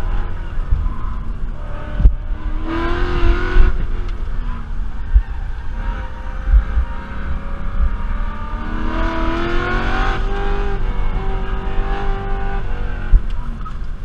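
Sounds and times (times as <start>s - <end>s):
car engine revving under load: 0.0s - 14.0s
road and wind rumble: 0.0s - 14.0s.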